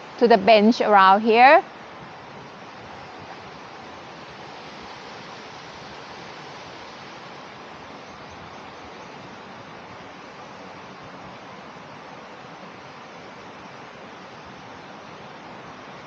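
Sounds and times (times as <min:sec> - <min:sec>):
water rushing over cascades: 0:00.0 - 0:16.0.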